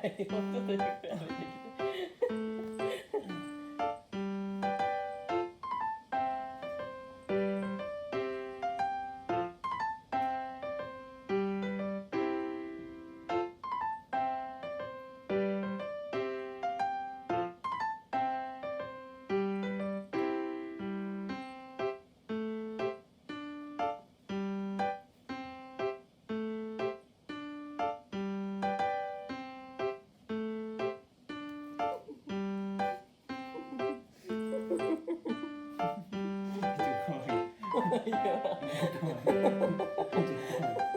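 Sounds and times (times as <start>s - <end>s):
bouncy piano tune: 0.0s - 40.9s.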